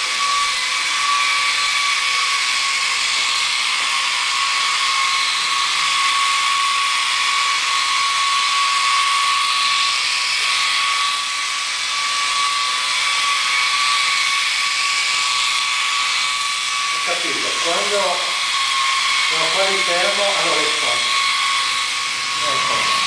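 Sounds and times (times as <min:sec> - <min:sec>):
toy helicopter rotors whirring: 0:00.0 - 0:23.0.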